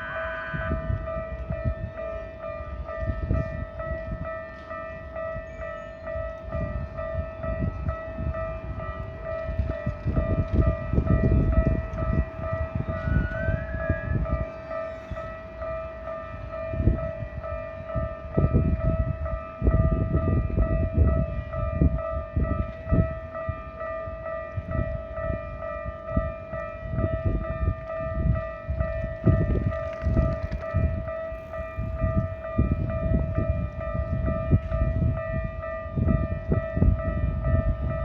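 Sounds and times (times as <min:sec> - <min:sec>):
level-crossing warning bell: 0:00.0 - 0:38.0.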